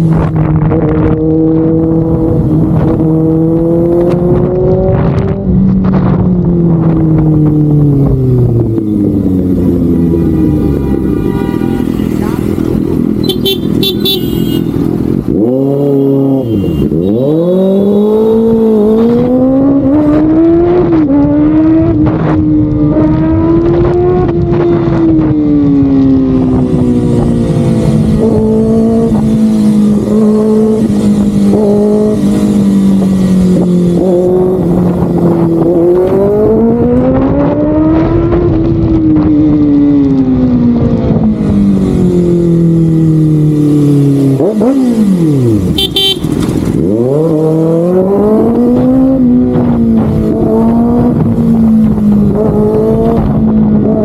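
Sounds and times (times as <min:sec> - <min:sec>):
motorcycle engine at high revs: 0:00.0 - 0:54.0
wind noise: 0:00.0 - 0:54.0.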